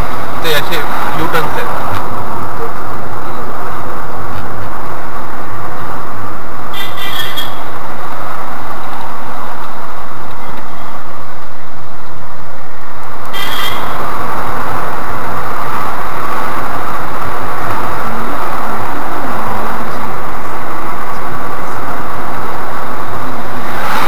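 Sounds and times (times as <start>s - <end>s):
in-car engine and tyre noise: 0.0s - 24.0s.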